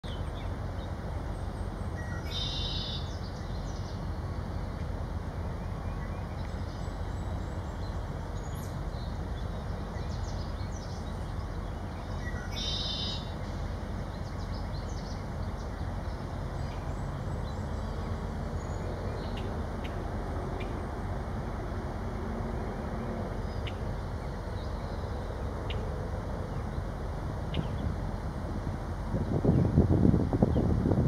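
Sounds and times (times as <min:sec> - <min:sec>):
steady low rumble: 0:03.0 - 0:31.0.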